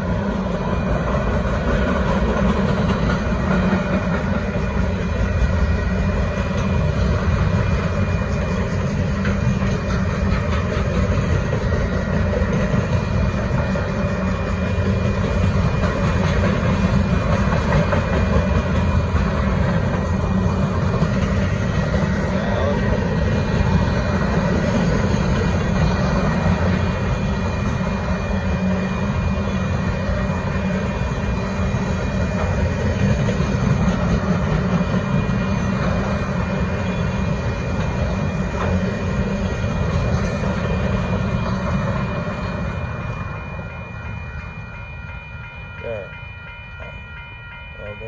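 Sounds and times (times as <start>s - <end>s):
crossing bell ringing: 0.0s - 48.0s
train wheels rattling on rail: 0.0s - 48.0s.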